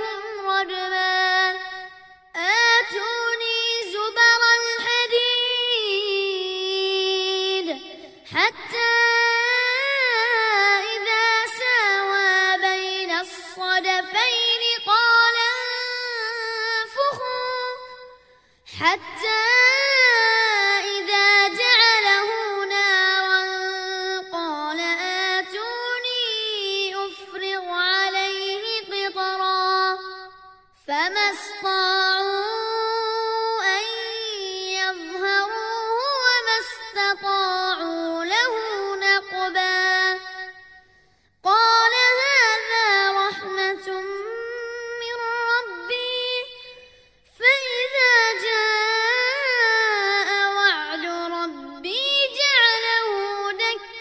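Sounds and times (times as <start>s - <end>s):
child reciting melodically: 0.0s - 40.6s, 41.4s - 54.0s.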